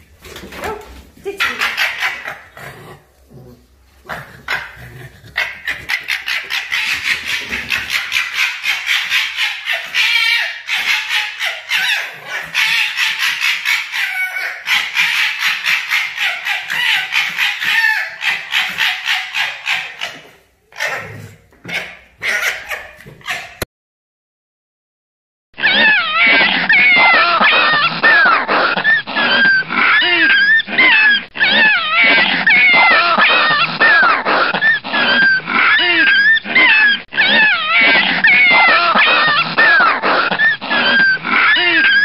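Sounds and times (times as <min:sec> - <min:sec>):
fox gekkering: 0:00.6 - 0:23.7, 0:25.6 - 0:42.0.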